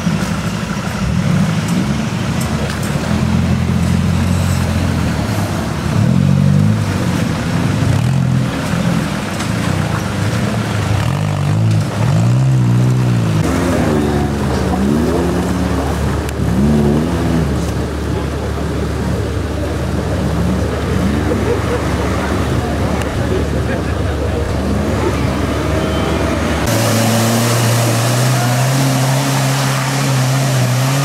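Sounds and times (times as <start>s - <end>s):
off-road engines revving: 0.0s - 31.0s.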